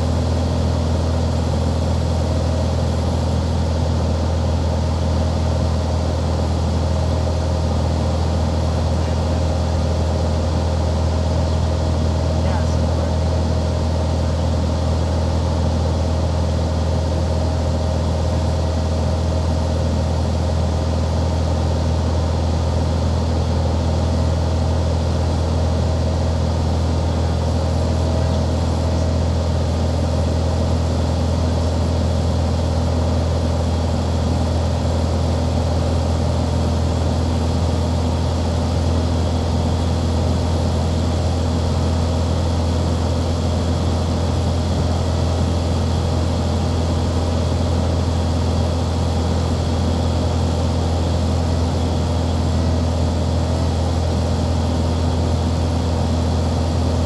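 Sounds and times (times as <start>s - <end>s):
light airplane engine droning: 0.0s - 57.0s.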